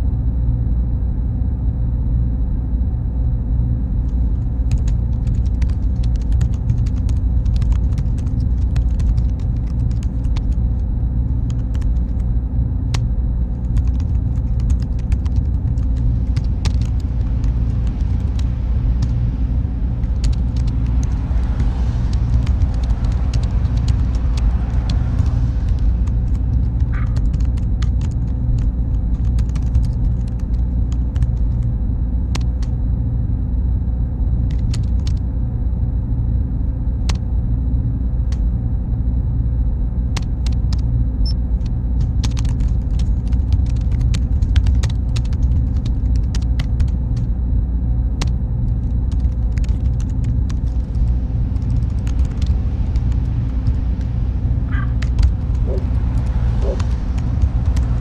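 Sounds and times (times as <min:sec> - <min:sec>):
faint high whine: 0:00.0 - 0:58.0
low machine rumble: 0:00.0 - 0:58.0.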